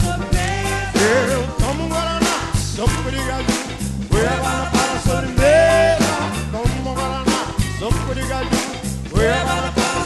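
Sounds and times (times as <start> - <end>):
bass line: 0.0 - 10.0
lead vocal singing: 0.0 - 10.0
steady drum beat: 0.0 - 10.0.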